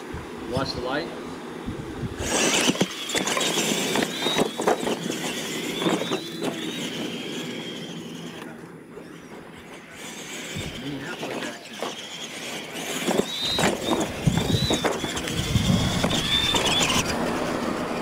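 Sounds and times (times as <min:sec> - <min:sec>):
toy truck motors whining: 0:01.7 - 0:18.0.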